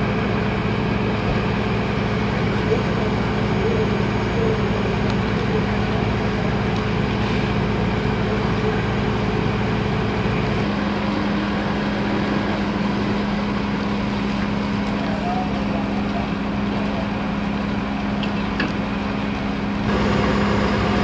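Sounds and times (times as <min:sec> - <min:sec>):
fire truck engine droning: 0:00.0 - 0:21.0.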